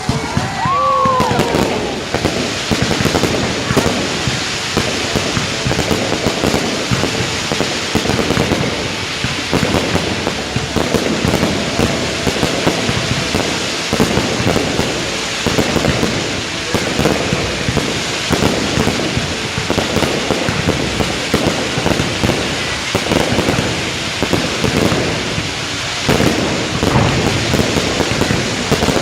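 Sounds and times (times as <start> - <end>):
fireworks rumbling and crackling: 0.0 - 29.0
fireworks sharp pops: 0.0 - 29.0.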